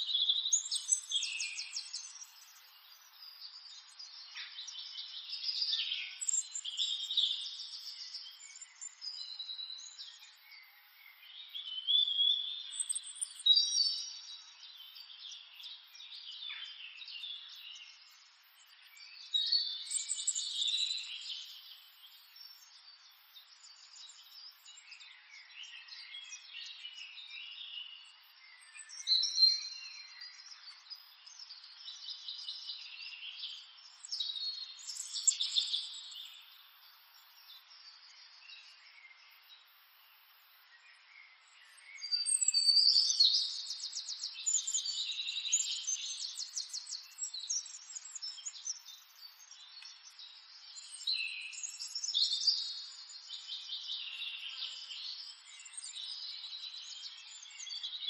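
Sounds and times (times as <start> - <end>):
birds chirping and singing: 0.1 - 38.7, 39.4 - 58.0.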